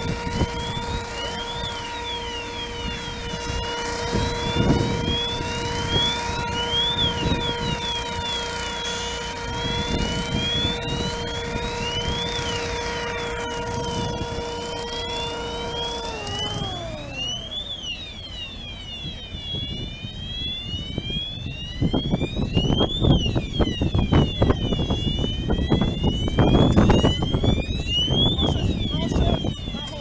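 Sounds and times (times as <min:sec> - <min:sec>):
fire engine siren wailing: 0:00.0 - 0:30.0
low rumbling: 0:00.0 - 0:30.0
machine whine: 0:00.0 - 0:30.0.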